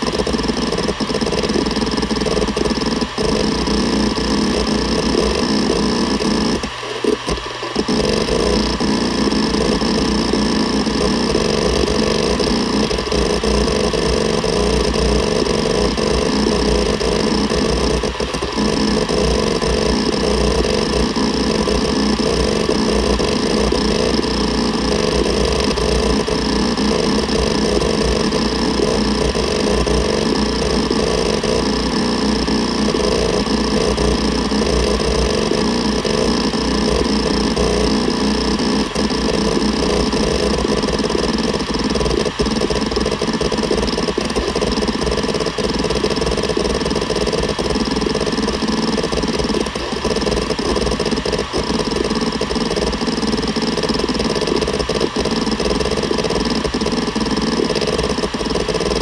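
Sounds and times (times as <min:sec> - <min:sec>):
hard drive heads chattering: 0:00.0 - 0:59.0
hard drive whine: 0:00.0 - 0:59.0.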